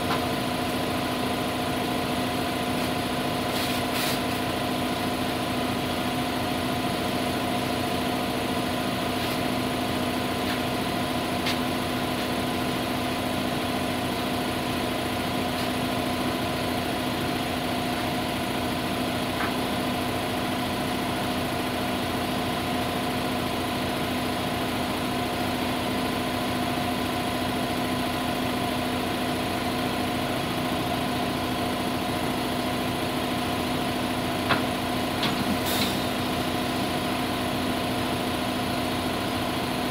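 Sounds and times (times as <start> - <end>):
engine humming at idle: 0.0 - 39.9.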